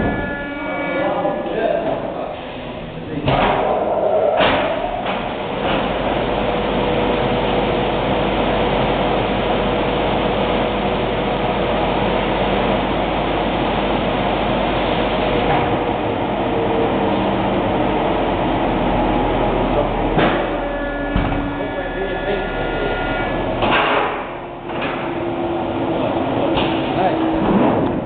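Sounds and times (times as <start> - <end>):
machine running: 0.0 - 28.0.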